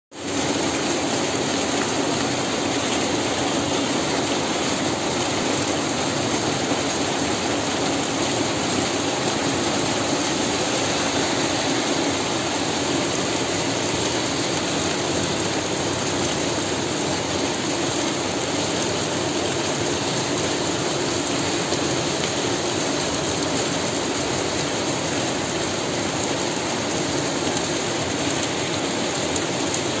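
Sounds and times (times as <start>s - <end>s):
heavy rain pouring: 0.1s - 30.0s.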